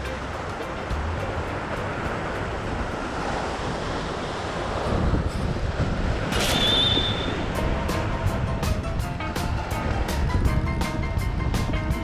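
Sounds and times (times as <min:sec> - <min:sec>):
rough surf: 0:00.0 - 0:12.0
wind buffeting microphone: 0:00.0 - 0:12.0.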